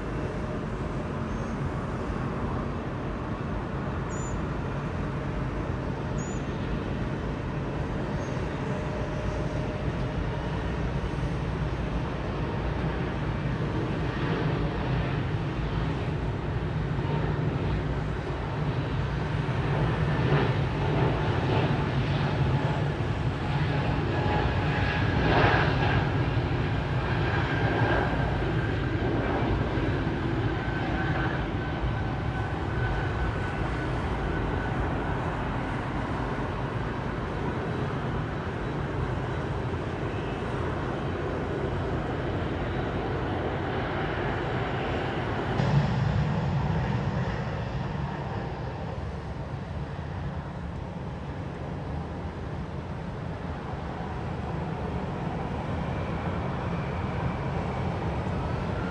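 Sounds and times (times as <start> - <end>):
faint high engine whine: 0.0 - 58.9
jet engines rushing: 0.0 - 58.9
low jet rumble: 0.0 - 58.9.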